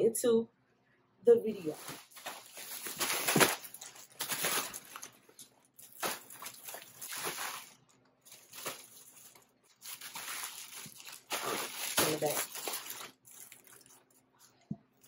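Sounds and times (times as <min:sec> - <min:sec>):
plastic mailer bag rustling: 0:01.5 - 0:14.1.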